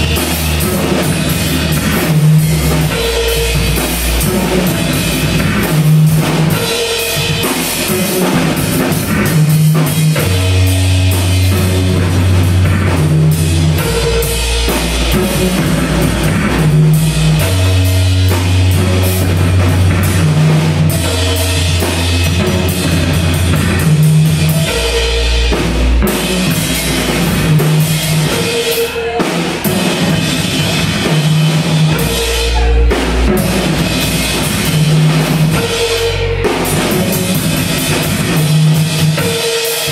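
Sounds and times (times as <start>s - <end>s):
drum kit played hard: 0.0s - 39.9s
low bass notes: 0.0s - 39.9s.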